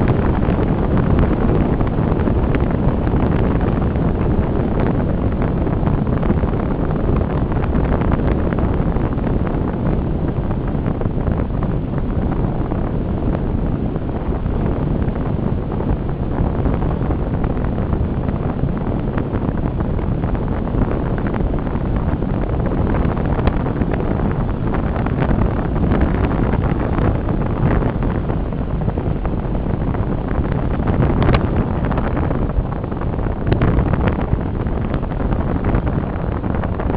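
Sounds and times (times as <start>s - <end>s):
car running noise: 0.0s - 36.9s
wind noise on microphone: 0.0s - 36.9s.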